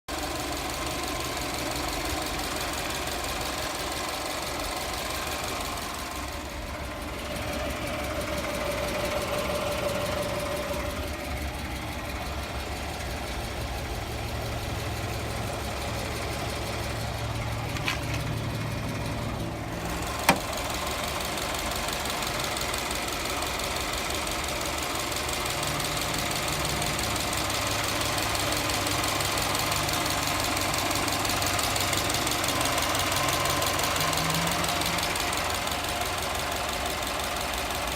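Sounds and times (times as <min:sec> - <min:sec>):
car engine with rattling knock: 0:00.1 - 0:37.9.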